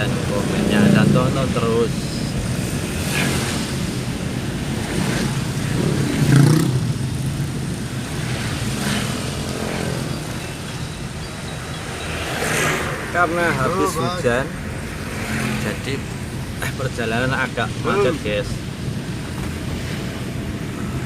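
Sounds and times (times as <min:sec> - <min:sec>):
engine rumble with road noise: 0:00.0 - 0:21.0
traffic passing: 0:00.0 - 0:21.0.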